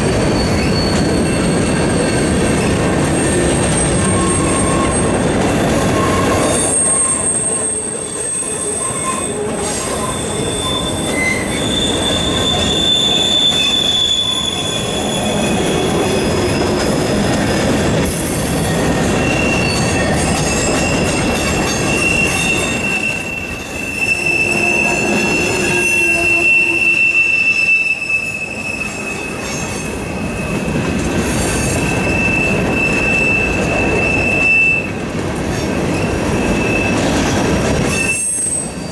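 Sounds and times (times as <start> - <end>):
high-pitched wheel squeal: 0.0 - 16.8, 18.6 - 30.7, 31.4 - 35.0, 36.3 - 37.2, 37.8 - 38.9
train wheels rumbling on rails: 0.0 - 38.9.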